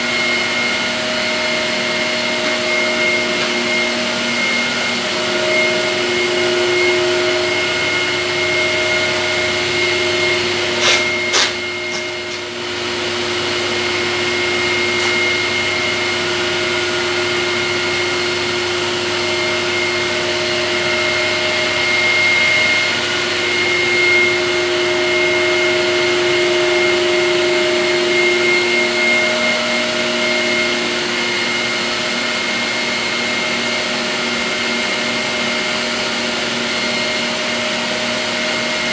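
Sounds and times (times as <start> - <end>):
electric air blower whirring: 0.0 - 38.9.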